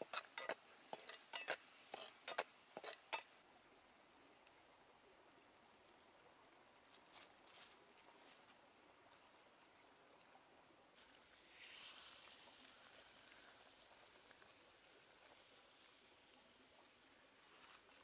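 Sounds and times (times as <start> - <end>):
faint cooking sounds: 0.0 - 18.0.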